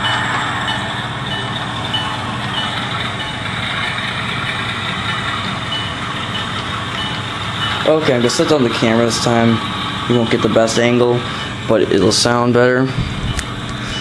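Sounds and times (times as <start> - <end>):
diesel engine sound through small speaker: 0.0 - 14.0.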